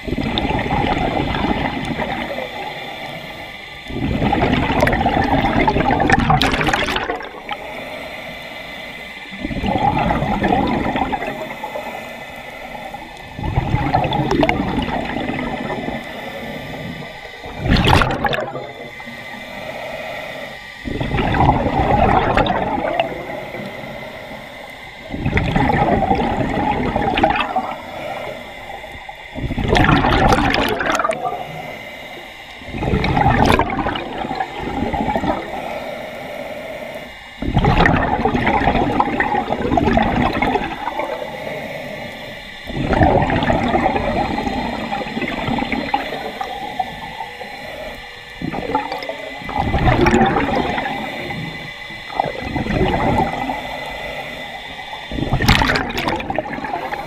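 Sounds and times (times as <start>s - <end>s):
gurgling exhaled bubbles: 0.0s - 7.8s, 8.7s - 19.7s, 20.4s - 35.8s, 36.8s - 57.0s
diver inhaling through regulator: 0.0s - 57.0s.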